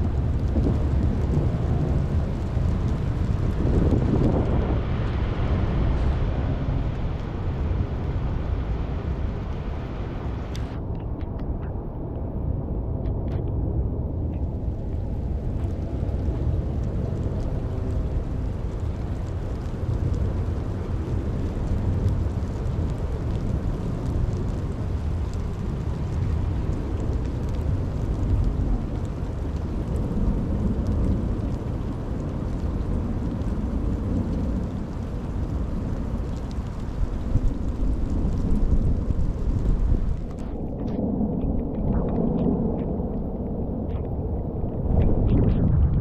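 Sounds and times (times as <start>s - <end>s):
deep rumble: 0.0s - 46.0s
steady rain: 0.0s - 46.0s.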